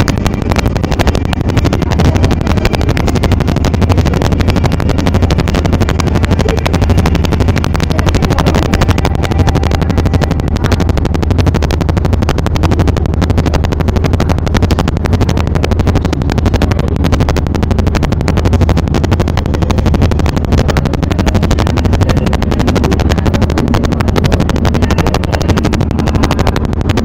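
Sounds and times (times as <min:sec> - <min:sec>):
boat engine chugging: 0:00.0 - 0:27.0.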